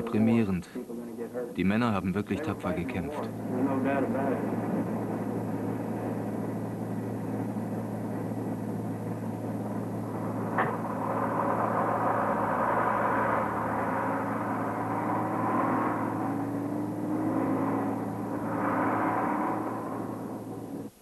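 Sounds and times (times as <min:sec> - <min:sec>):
aircraft engines droning: 0:01.9 - 0:21.0
rising whining tones: 0:02.8 - 0:21.0.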